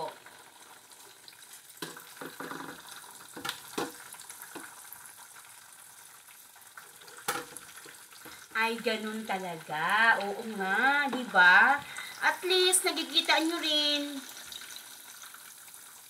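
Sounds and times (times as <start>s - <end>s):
slices frying in hot oil: 0.0s - 16.0s.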